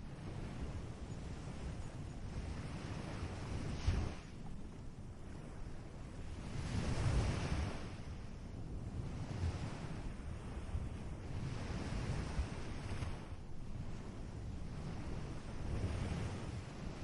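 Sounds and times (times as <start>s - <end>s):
ocean waves breaking: 0.0s - 17.0s
wind rumble on microphone: 0.0s - 17.0s.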